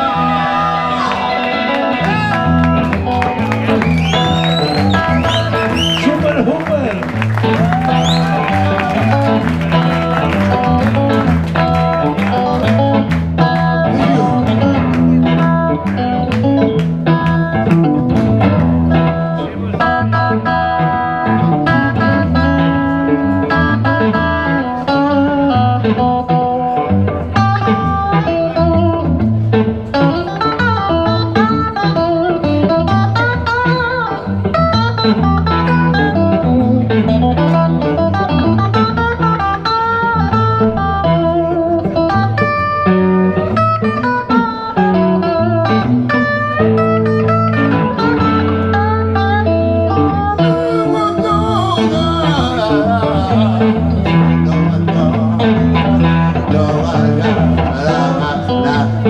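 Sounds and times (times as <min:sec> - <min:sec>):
lead guitar with bent notes: 0:00.0 - 0:59.0
rhythm guitar strumming: 0:00.0 - 0:59.0.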